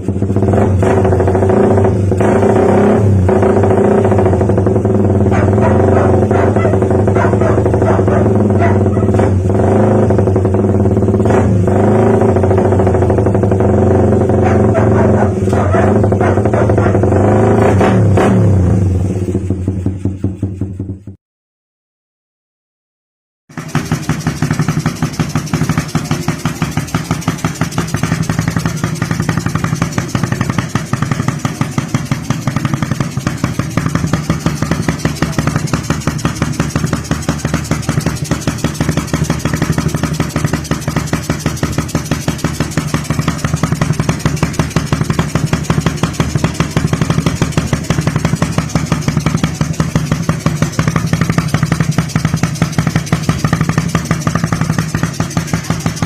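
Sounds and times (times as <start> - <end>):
motorcycle engine idling: 0.0 - 21.2, 23.5 - 56.0.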